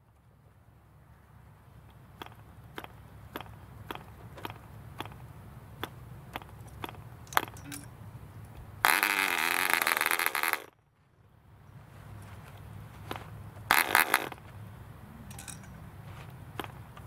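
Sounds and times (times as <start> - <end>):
propeller flicking clicks: 1.8 - 10.7, 12.2 - 17.0.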